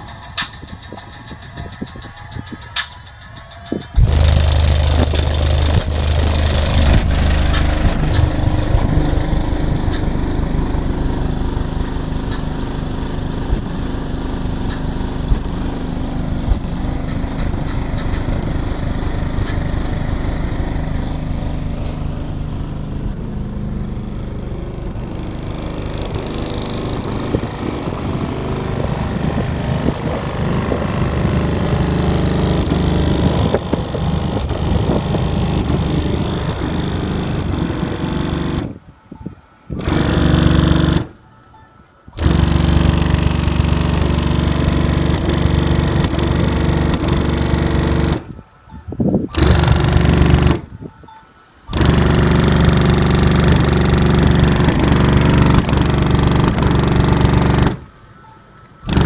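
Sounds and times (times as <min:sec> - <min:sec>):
bass-heavy music through subwoofers: 0:00.0 - 0:38.7, 0:42.2 - 0:48.2, 0:49.4 - 0:50.7, 0:51.7 - 0:57.9.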